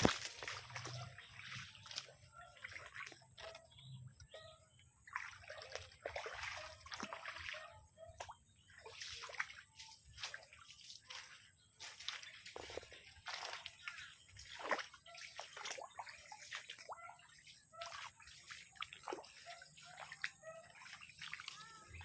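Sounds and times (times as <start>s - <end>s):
clicking and splashy noises: 0.0s - 4.4s, 5.0s - 22.0s.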